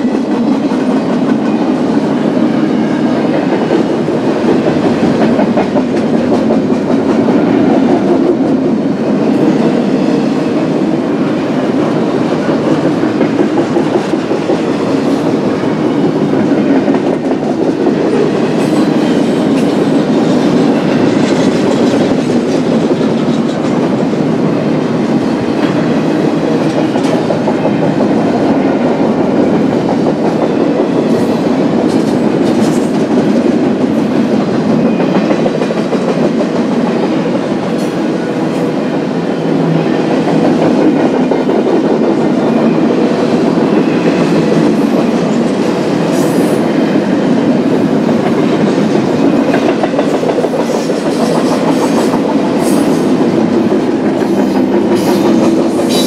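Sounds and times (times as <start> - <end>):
wheels clacking over rail joints: 0.0 - 39.1, 39.7 - 56.0
freight train wheels rumbling: 0.0 - 56.0.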